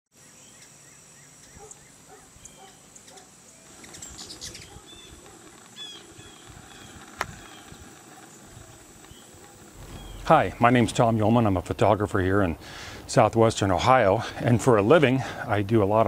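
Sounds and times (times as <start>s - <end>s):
songbirds chirping: 0.2s - 16.0s.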